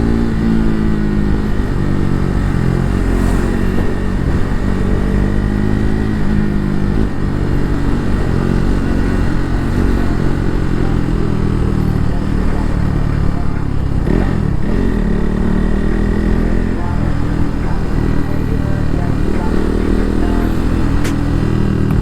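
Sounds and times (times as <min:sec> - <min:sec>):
motorcycle engine revving: 0:00.0 - 0:22.0
road and wind noise: 0:00.0 - 0:22.0.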